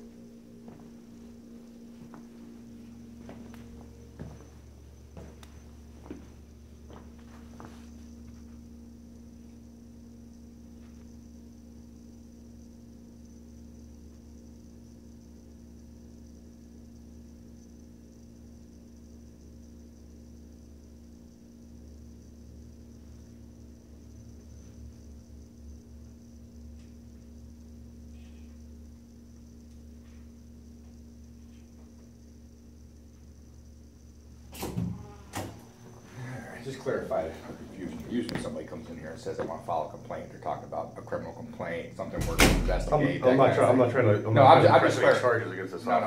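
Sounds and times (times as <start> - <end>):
low mains hum: 0.0 - 46.0
thin high whine: 0.0 - 46.0.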